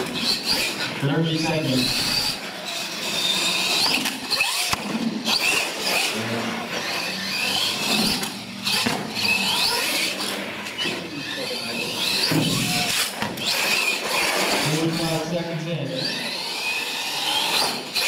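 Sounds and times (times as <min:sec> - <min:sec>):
electric motor and gears whining: 0:00.0 - 0:18.0.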